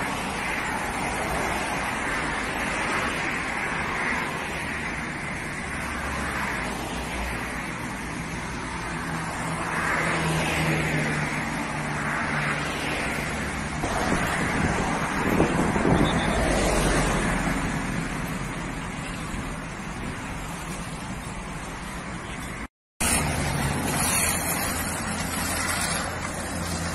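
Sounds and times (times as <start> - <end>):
highway traffic passing: 0.0 - 26.9.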